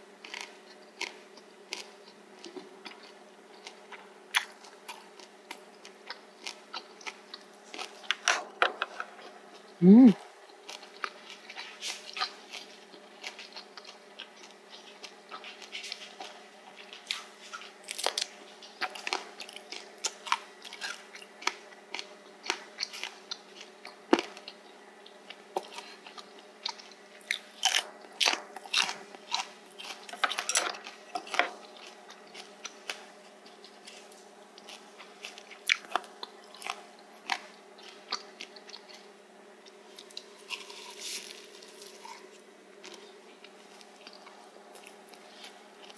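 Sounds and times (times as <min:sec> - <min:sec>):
crunchy chewing: 0:00.0 - 0:45.9
faint steady hum: 0:00.0 - 0:45.9.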